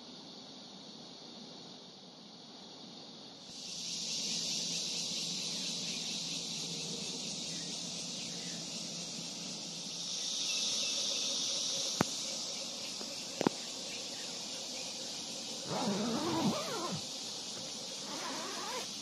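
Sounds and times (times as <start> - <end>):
insects buzzing shrilly: 0.0 - 19.0.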